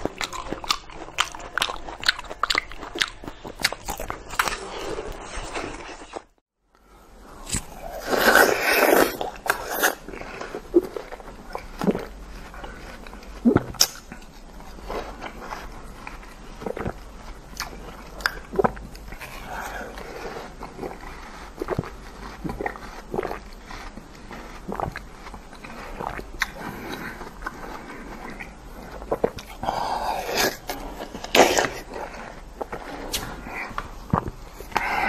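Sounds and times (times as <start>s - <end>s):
person chewing juicy fruit: 0.0s - 35.0s.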